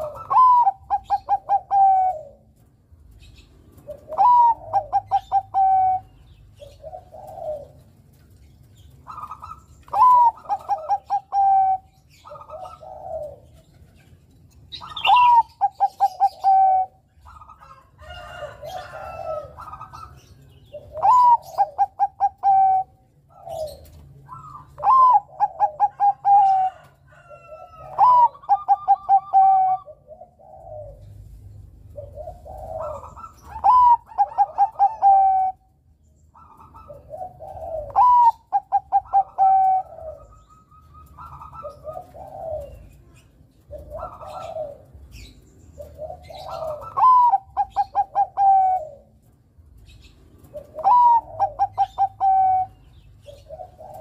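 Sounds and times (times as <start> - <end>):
dove cooing song: 0.0 - 54.0.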